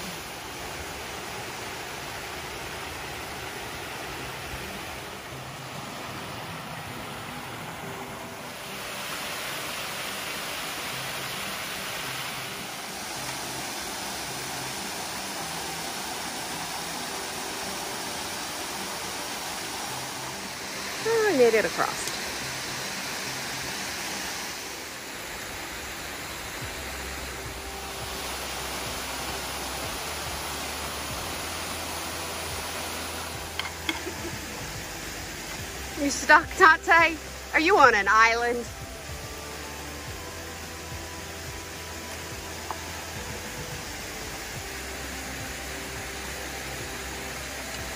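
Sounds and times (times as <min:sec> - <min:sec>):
water rushing over cascades: 0:00.0 - 0:47.9.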